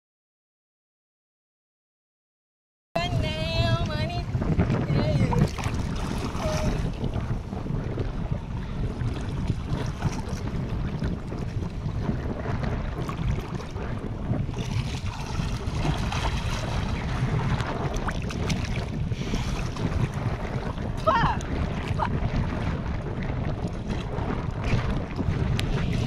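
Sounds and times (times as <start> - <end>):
moving water: 3.0 - 26.0
wind buffeting microphone: 3.0 - 26.0.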